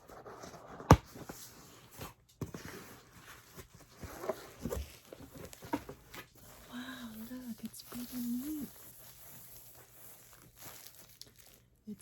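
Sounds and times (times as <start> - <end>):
cardboard rustling and scraping: 0.0 - 11.7.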